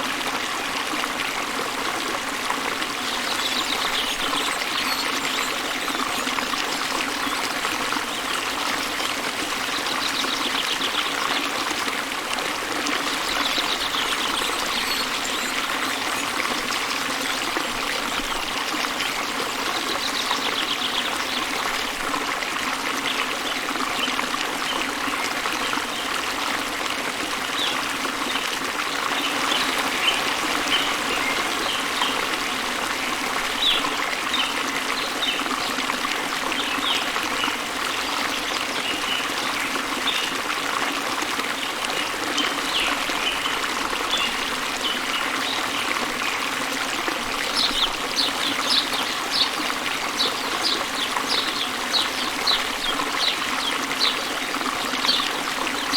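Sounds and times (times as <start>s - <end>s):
small waterfall splashing: 0.0s - 55.9s.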